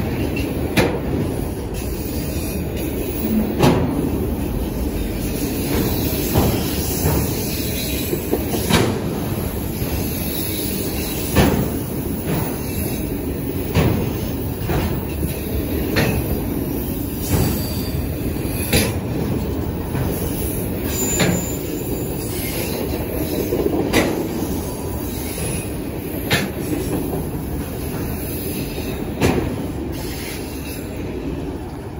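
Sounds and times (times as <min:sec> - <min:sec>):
steel wheels rumbling on rail: 0:00.0 - 0:31.9.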